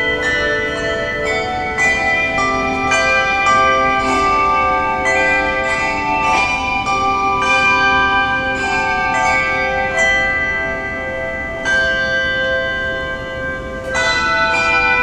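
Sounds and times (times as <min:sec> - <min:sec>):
handbell choir ringing chords: 0:00.0 - 0:15.0.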